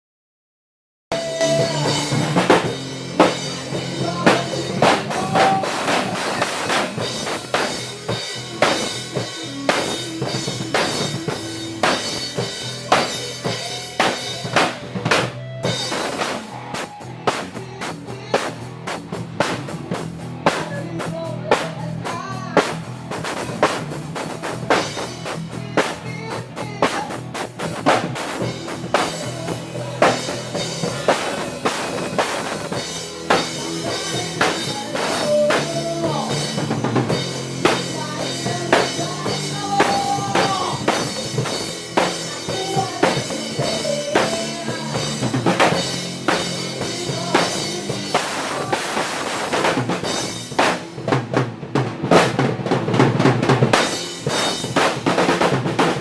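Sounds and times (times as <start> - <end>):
bass line: 1.1 - 56.0
drum kit beat: 1.1 - 56.0.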